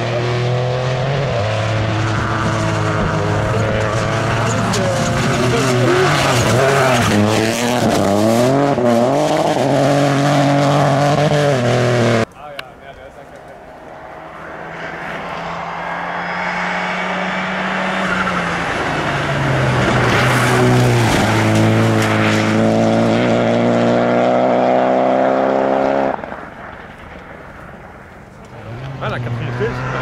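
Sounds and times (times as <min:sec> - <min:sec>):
rally car engine passing: 0:00.0 - 0:12.3, 0:13.0 - 0:30.0.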